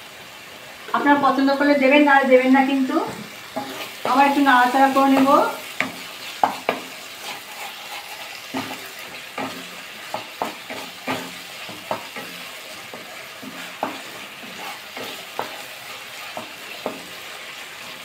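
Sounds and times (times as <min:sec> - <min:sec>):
paste sizzling in oil: 0:00.0 - 0:18.0
spatula scraping a pan: 0:03.3 - 0:18.0.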